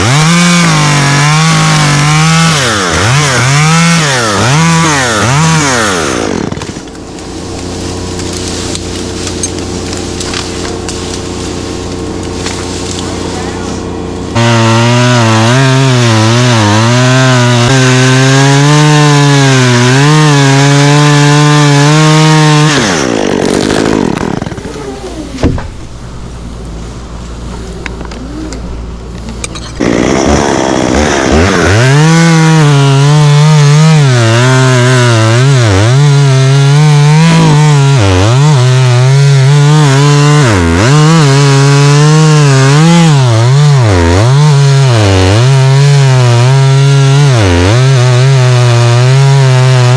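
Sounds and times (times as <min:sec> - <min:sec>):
chainsaw revving and idling: 0:00.0 - 0:24.9, 0:29.7 - 0:49.9.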